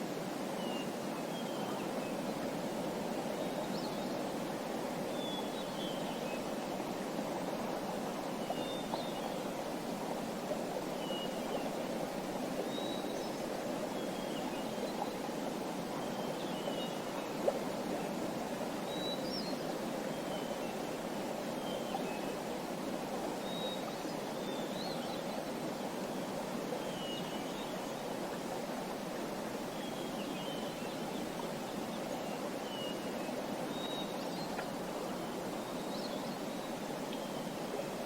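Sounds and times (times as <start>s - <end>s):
running water: 0.0s - 38.0s.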